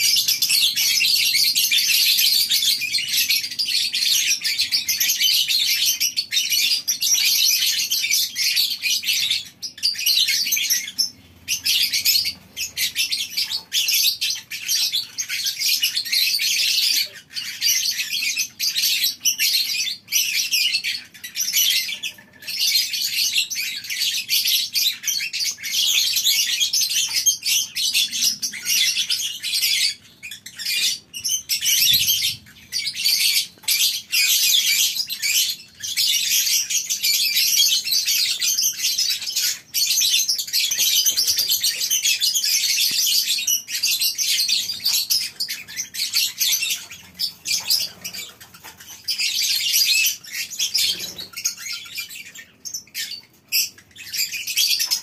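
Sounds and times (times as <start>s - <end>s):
lovebirds chattering: 0.0s - 55.0s.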